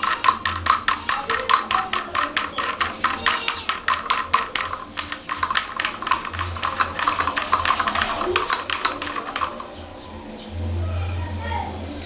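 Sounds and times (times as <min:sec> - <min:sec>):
rapid light clicks and taps: 0:00.0 - 0:09.8.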